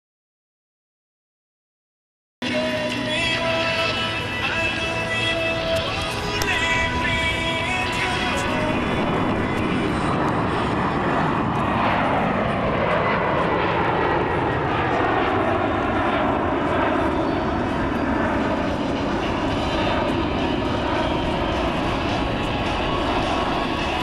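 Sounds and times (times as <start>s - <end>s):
jet engines roaring with whine: 2.4s - 24.0s.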